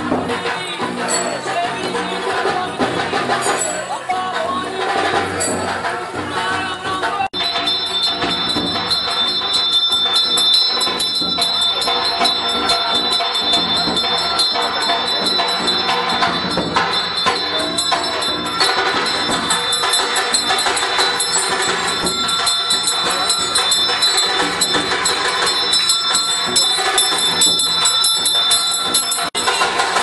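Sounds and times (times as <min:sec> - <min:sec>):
bells ringing rapidly: 0:00.0 - 0:06.2, 0:07.4 - 0:30.0
jingling percussion: 0:00.0 - 0:30.0
music: 0:00.0 - 0:30.0.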